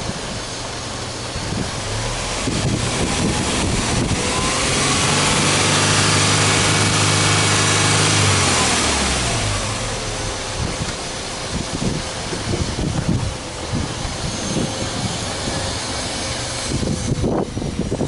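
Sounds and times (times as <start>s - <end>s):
car engine revving: 1.4s - 18.0s.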